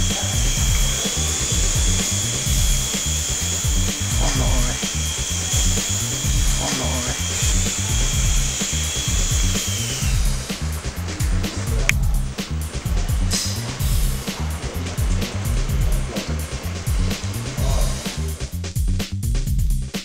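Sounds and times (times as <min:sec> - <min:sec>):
toy helicopter whine: 0:00.0 - 0:11.8, 0:12.4 - 0:18.6
music with heavy beat: 0:00.0 - 0:20.0.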